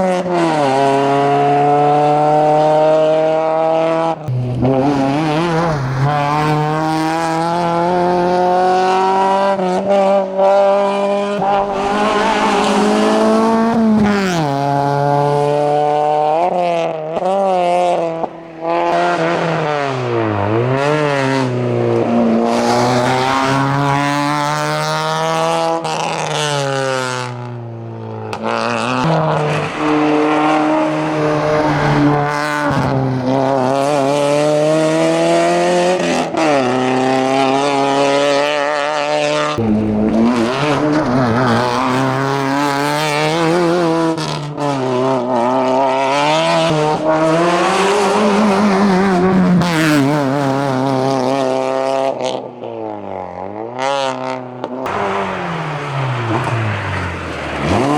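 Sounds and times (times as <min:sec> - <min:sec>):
racing car engine revving: 0:00.0 - 0:57.9.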